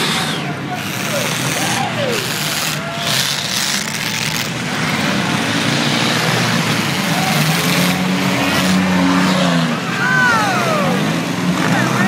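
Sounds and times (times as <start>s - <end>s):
race car engines under throttle: 0.0s - 12.0s.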